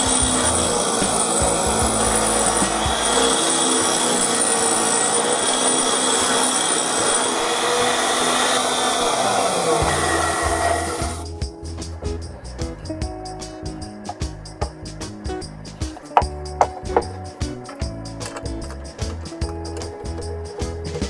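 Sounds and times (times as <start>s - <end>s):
tool rasping wood: 0.0s - 11.2s, 12.0s - 21.0s.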